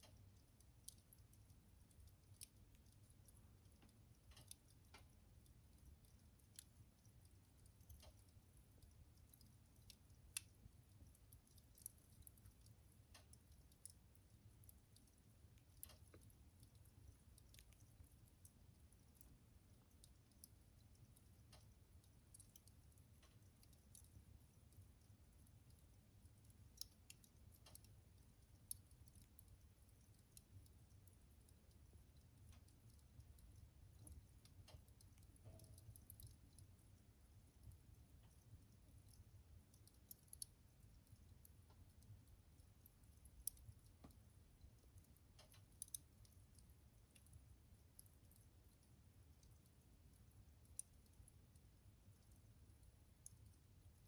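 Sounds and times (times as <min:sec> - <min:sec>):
fire crackling: 0:00.0 - 0:53.6
low steady hum: 0:00.0 - 0:54.0.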